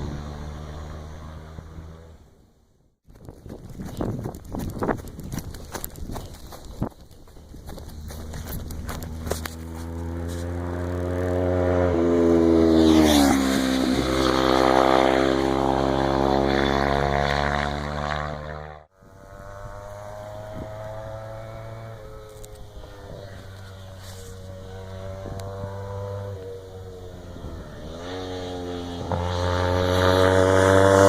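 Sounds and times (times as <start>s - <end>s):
motorcycle engine running hard: 3.2s - 31.0s.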